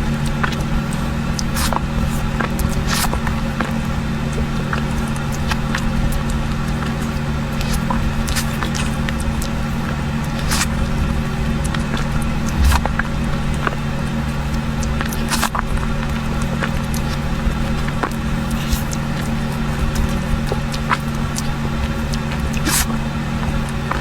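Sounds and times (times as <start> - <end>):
steady low hum: 0.0 - 24.0
wet eating squishes: 0.0 - 24.0.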